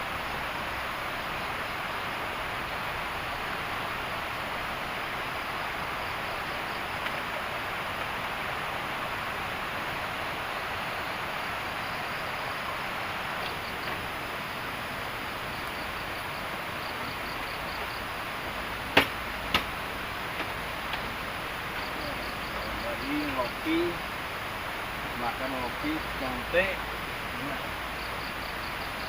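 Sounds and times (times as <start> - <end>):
insects chirping: 0.0 - 29.0
river rushing: 0.0 - 29.0.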